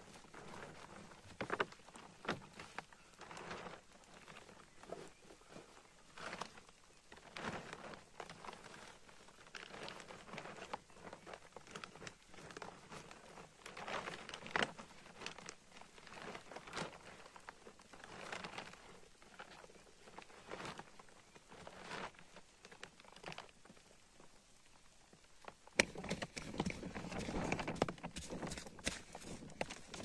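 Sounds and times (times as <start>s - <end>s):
plastic tarp crinkling and rustling: 0.0s - 30.0s.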